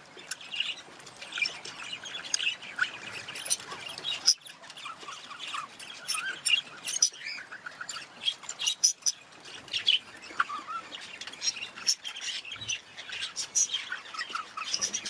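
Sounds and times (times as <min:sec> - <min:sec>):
budgerigars chattering: 0:00.2 - 0:15.0.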